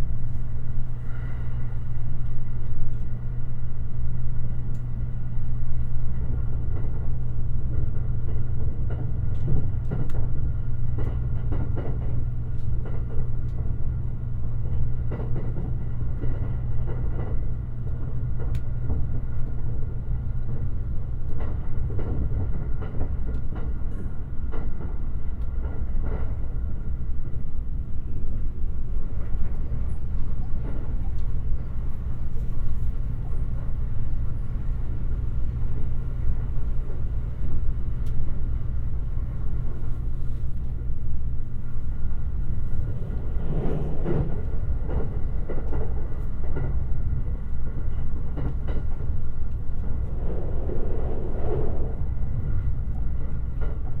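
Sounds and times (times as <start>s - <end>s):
electric train rumbling on rails: 0.0s - 54.0s.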